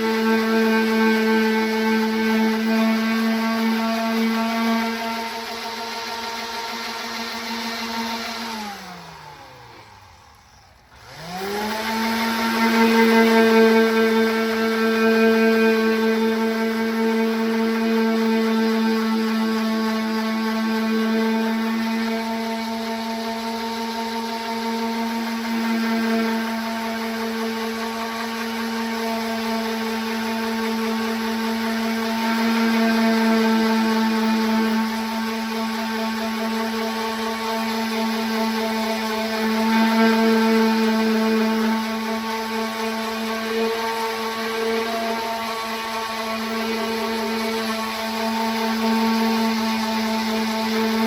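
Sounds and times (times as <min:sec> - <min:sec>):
electric orbital sander: 0:00.0 - 0:51.0.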